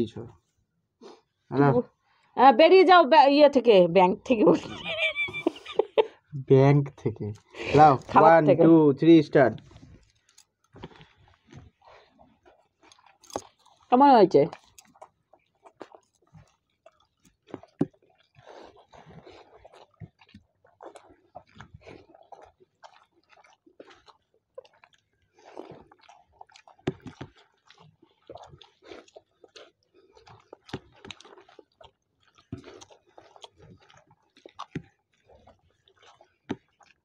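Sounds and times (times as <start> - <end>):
wet squishes of rice and curry: 0.2 - 3.8, 9.6 - 37.0
people chewing: 4.3 - 37.0.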